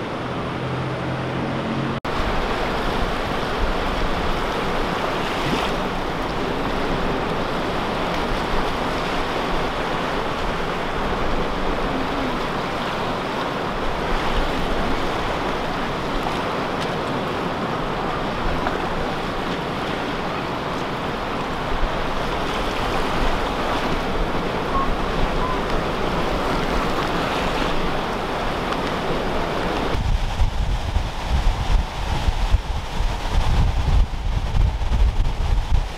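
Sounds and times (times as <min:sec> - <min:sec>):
storm surf breaking and churning: 0:00.0 - 0:35.9
wind blowing on microphone: 0:00.0 - 0:35.9.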